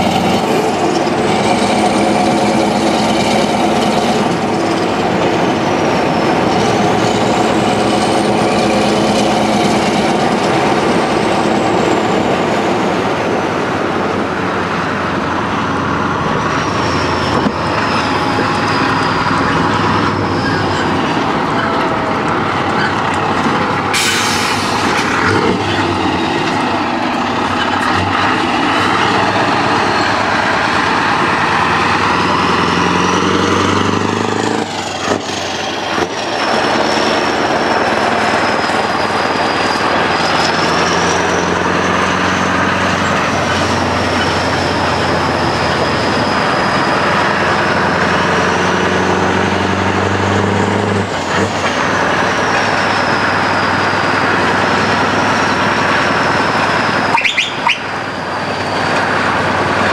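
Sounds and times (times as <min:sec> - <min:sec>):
diesel truck engine rumbling: 0:00.0 - 0:59.9
high engine whine: 0:00.0 - 0:59.9.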